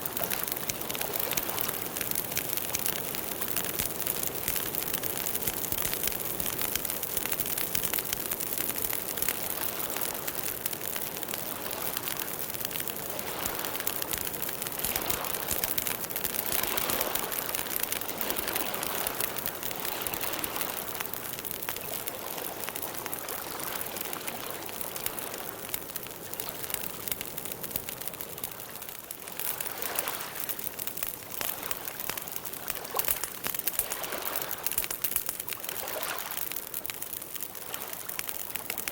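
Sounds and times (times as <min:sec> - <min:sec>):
campfire wood crackling: 0:00.0 - 0:38.9.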